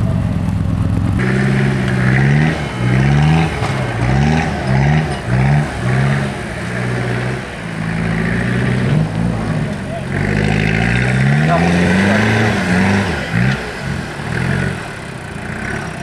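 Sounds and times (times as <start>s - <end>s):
engine droning: 0.0s - 16.0s
truck engine revving: 0.0s - 16.0s.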